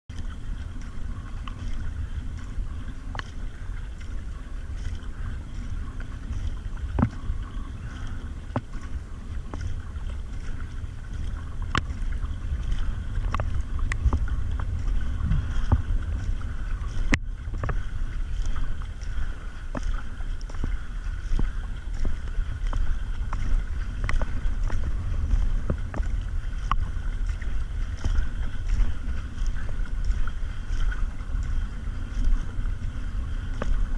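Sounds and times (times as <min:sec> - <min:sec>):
paddle splashing in water: 0:00.1 - 0:33.9
wind on microphone: 0:00.1 - 0:33.9.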